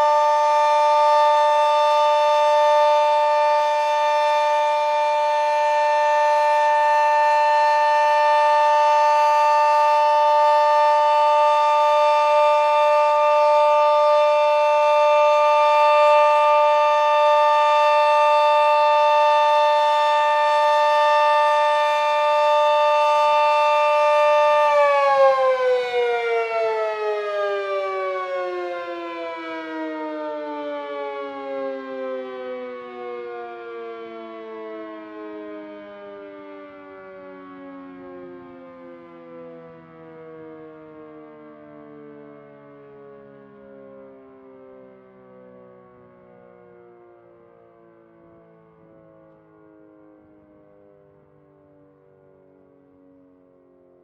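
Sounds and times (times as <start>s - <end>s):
dual-tone warning siren: 0.0s - 54.0s.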